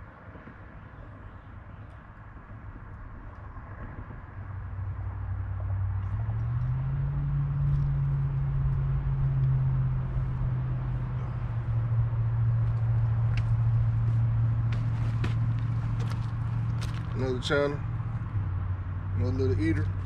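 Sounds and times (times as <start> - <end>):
engine droning: 2.8 - 20.0.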